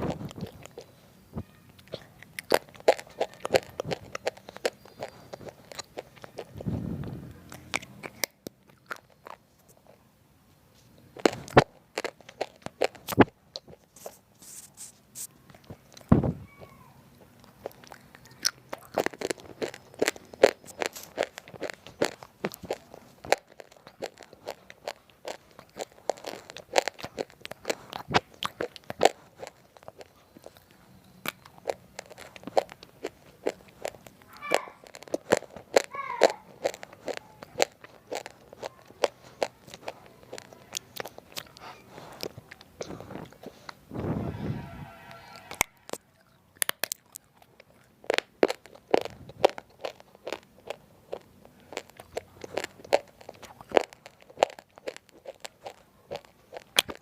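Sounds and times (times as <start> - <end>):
crunching and chewing chips: 0.0 - 10.1, 10.7 - 57.0.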